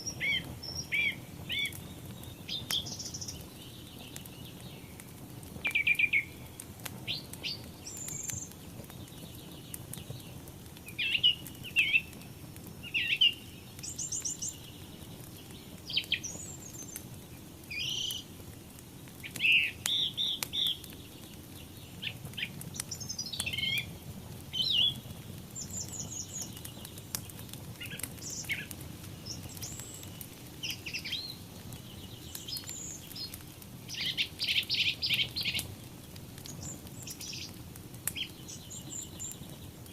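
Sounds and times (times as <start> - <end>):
fire hissing and crackling: 0.0 - 39.9
songbirds chirping and trilling: 0.0 - 39.9.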